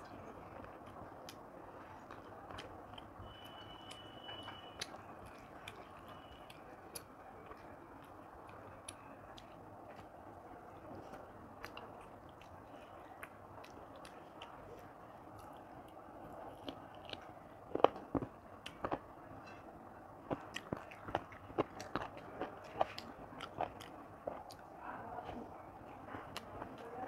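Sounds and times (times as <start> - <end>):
chewing: 0.0 - 27.0
fingers squishing food: 0.0 - 27.0.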